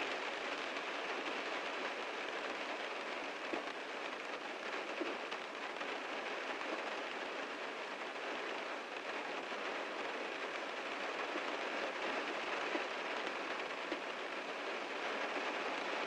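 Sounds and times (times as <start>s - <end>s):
heavy rain drumming on car roof: 0.0s - 16.0s.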